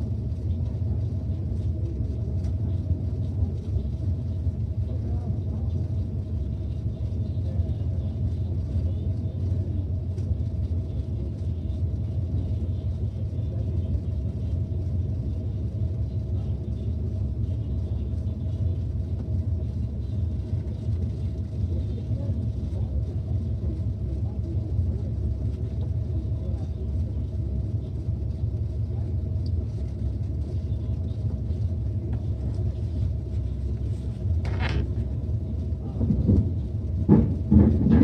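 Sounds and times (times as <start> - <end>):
faint steady hum: 0.0 - 37.7
truck engine and road rumble: 0.0 - 38.0.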